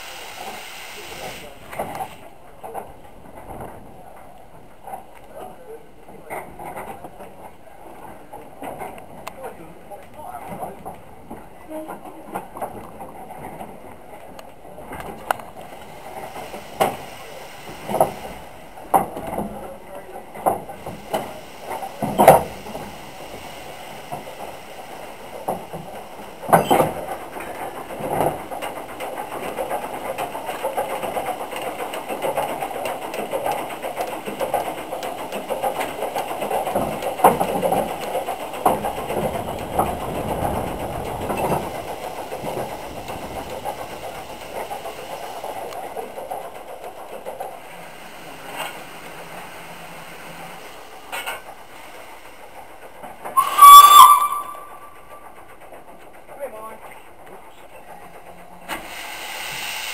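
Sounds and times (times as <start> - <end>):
steam locomotive hiss: 0.0 - 2.4, 11.0 - 59.9.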